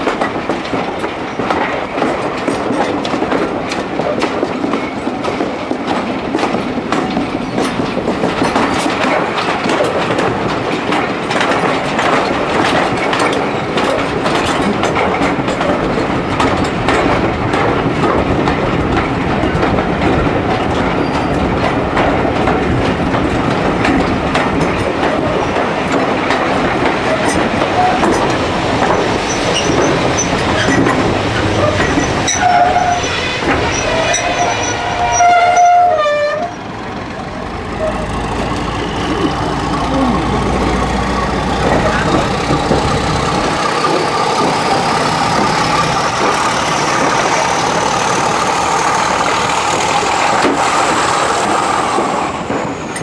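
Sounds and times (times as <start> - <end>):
clicks over rail joints: 0.0 - 53.0
train wheels rumbling on rail: 0.0 - 53.0.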